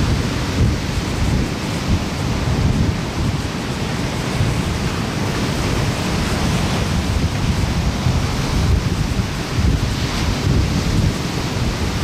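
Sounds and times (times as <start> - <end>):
surf breaking on a beach: 0.0 - 12.0
wind rumble on microphone: 0.0 - 12.0.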